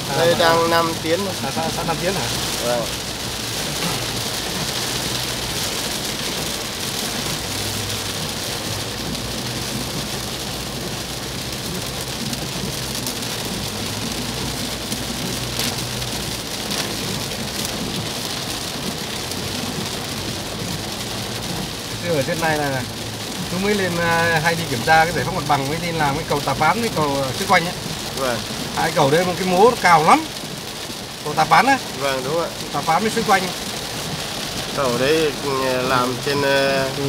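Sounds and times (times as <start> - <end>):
heavy rain drumming on car roof: 0.0 - 37.0
low hum of moving car: 0.0 - 37.0.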